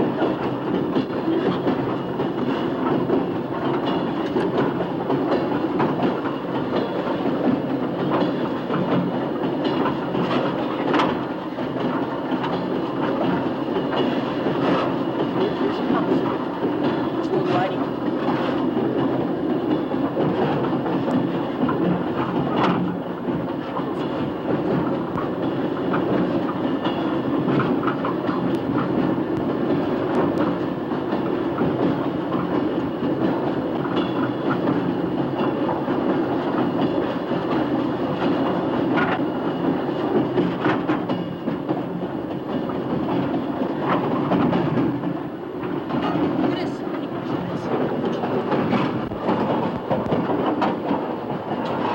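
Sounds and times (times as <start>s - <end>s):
train rumble: 0.0s - 51.9s
wheels clicking over rail joints: 0.2s - 51.9s.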